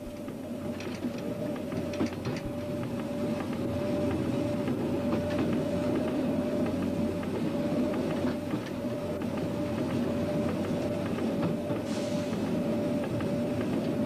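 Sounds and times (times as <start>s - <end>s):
train drone with whine: 0.0s - 14.0s
wheels clicking over track: 0.0s - 14.0s.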